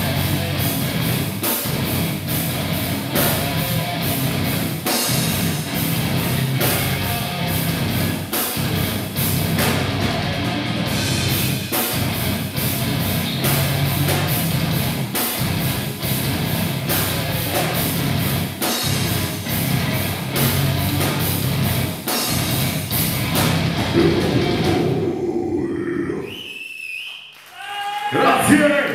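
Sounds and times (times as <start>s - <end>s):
hard-hit drums: 0.0s - 25.8s
metal band playing live: 0.0s - 26.2s.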